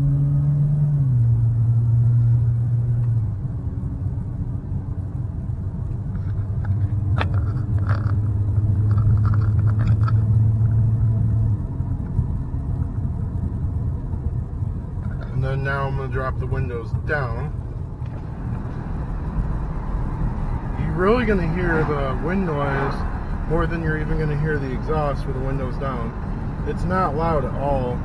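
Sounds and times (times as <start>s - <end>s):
car engine and exhaust drone: 0.0s - 28.0s.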